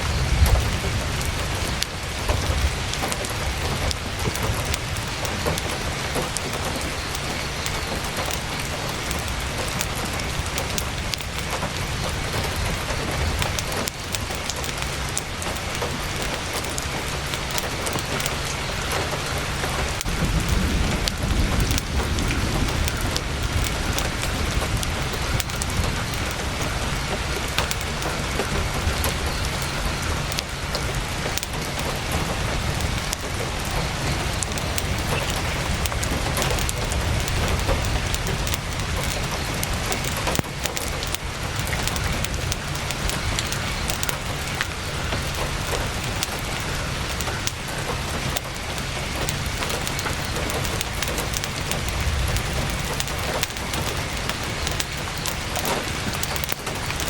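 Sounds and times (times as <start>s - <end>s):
heavy rain drumming on tent fabric: 0.0s - 57.0s.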